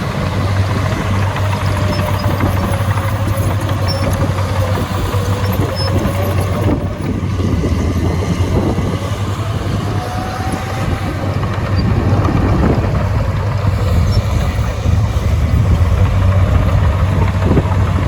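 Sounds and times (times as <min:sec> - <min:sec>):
heavy diesel engine rattling: 0:00.0 - 0:18.0
thin engine whine: 0:00.0 - 0:18.0.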